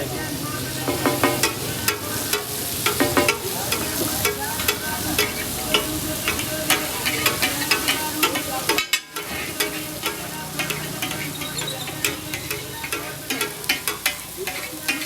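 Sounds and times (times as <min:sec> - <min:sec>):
meat sizzling in a pan: 0:00.0 - 0:15.0
metal spatula scraping a pan: 0:00.9 - 0:15.0.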